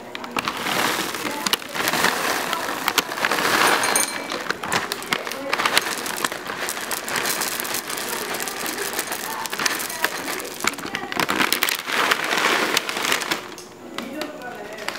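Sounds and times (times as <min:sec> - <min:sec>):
cereal pouring into bowl: 0:00.2 - 0:14.9.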